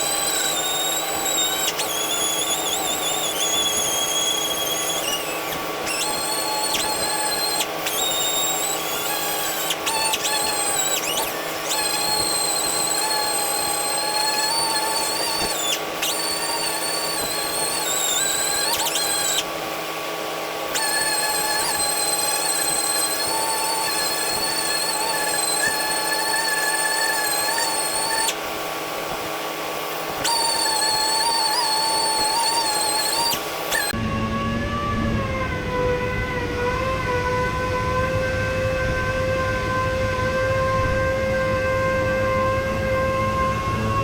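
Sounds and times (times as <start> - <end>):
power sander whining: 0.0 - 44.0.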